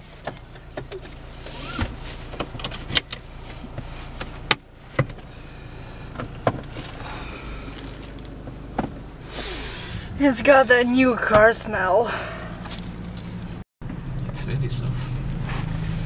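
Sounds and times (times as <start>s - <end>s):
diesel car engine humming: 0.0s - 16.0s.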